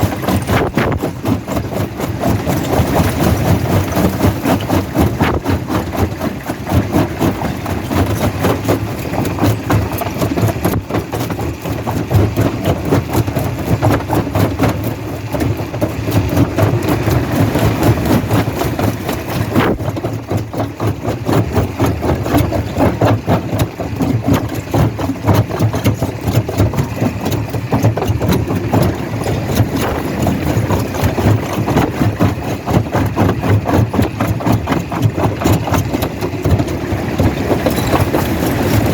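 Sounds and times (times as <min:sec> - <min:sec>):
rock crusher rumbling: 0:00.0 - 0:38.9.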